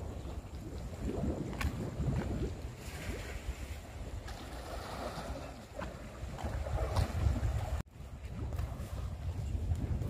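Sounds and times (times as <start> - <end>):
sea washing: 0.0 - 10.0
wind rumble on microphone: 0.0 - 10.0.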